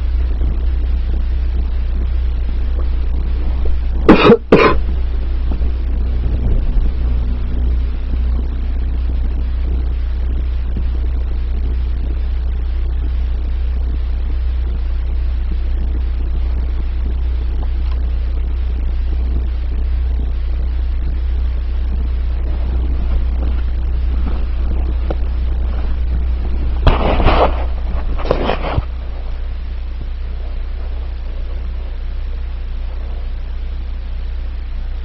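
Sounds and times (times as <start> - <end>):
car interior rumble: 0.0 - 35.0.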